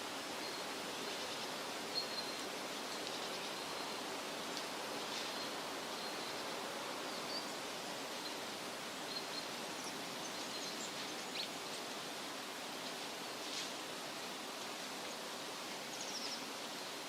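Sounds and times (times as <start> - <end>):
wind rustling through trees: 0.0 - 17.0.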